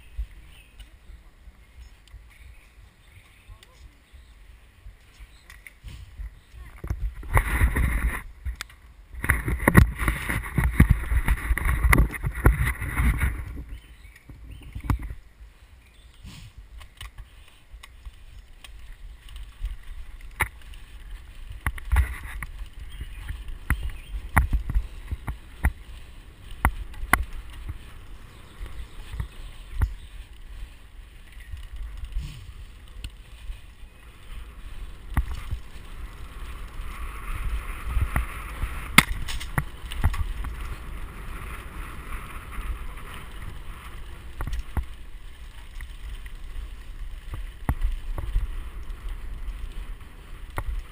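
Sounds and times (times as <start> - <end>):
tyre and wind rumble: 0.0 - 50.9
bike knocking and rattling: 5.0 - 15.3, 15.9 - 50.9.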